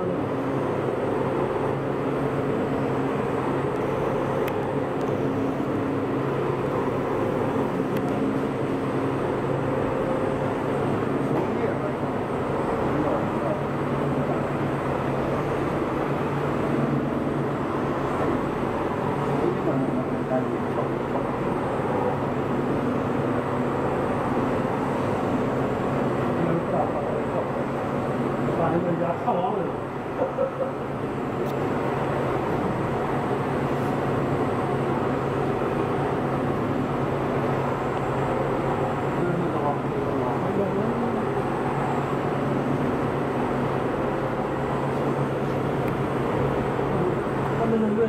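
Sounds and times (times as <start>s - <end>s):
machinery hum of motors and conveyors: 0.0s - 48.0s.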